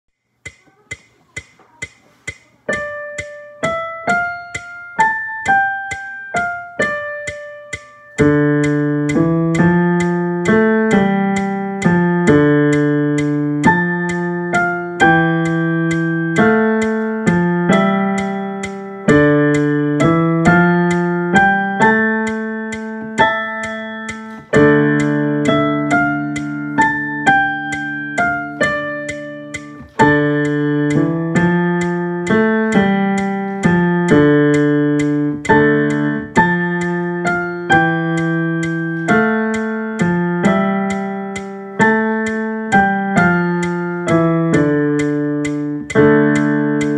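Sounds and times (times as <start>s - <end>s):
digital piano playing: 0.3s - 46.9s.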